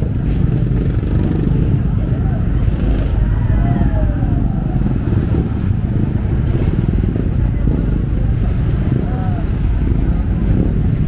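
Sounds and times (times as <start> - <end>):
crowd voices: 0.0 - 11.0
motor traffic rumble: 0.0 - 11.0.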